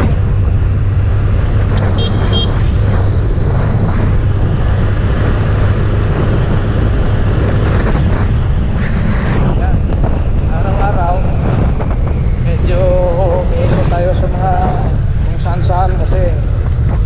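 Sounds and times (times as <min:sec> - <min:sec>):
motorcycle engine drone: 0:00.0 - 0:17.0
road noise: 0:00.0 - 0:17.0.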